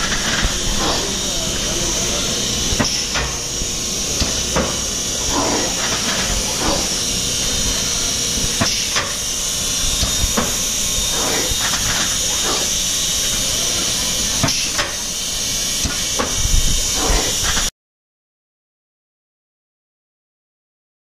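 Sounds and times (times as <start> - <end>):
machinery high hiss: 0.0 - 17.7.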